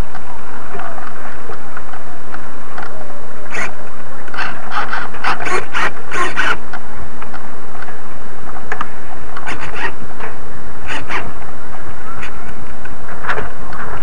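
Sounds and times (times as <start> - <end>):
wind and water noise: 0.0 - 14.0.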